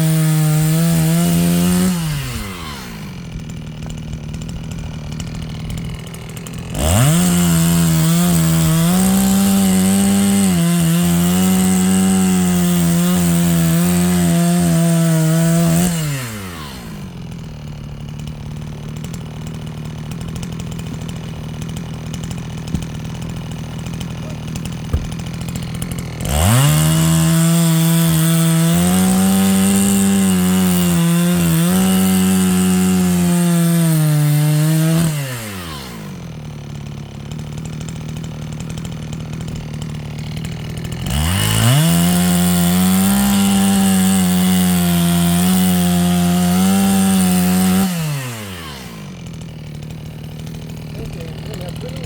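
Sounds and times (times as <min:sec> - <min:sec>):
chainsaw revving while cutting logs: 0:00.0 - 0:52.0.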